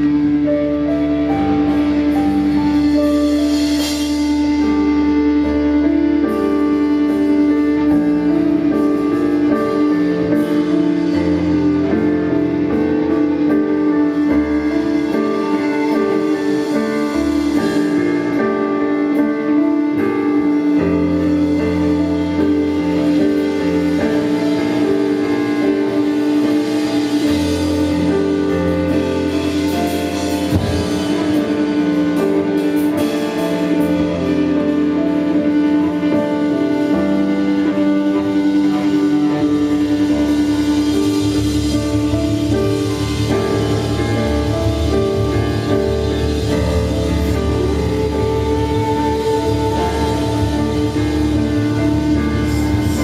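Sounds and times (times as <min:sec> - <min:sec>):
rock band playing live: 0:00.0 - 0:53.0.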